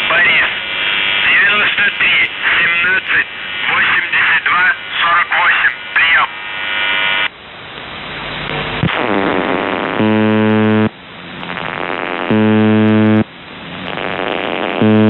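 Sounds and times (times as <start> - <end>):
radio buzz tone: 0.0 - 7.3, 8.4 - 15.0
shortwave static: 0.0 - 15.0.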